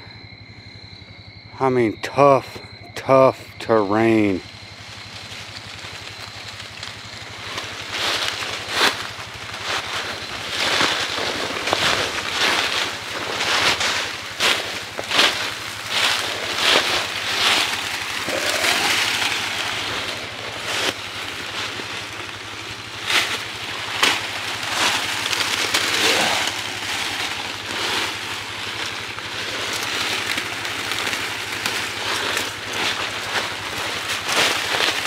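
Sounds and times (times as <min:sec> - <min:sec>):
steady low hum: 0:00.0 - 0:35.0
dry leaves crunching and rustling: 0:04.4 - 0:35.0
twigs cracking: 0:04.4 - 0:35.0.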